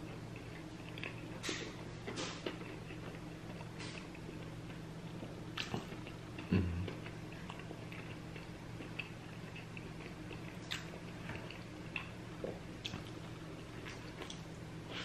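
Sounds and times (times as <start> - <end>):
person chewing food: 0.0 - 15.0
steady low hum: 0.0 - 15.0.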